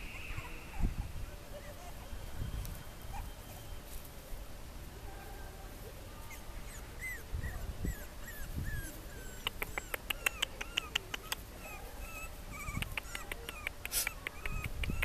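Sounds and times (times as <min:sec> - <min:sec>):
puppies whimpering: 0:00.0 - 0:03.7, 0:06.3 - 0:15.0.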